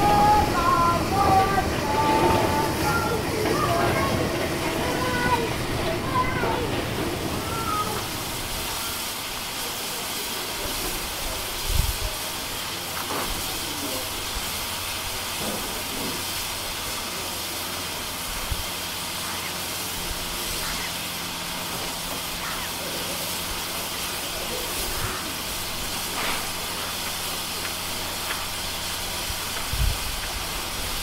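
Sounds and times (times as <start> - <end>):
steam hissing: 0.0 - 31.0.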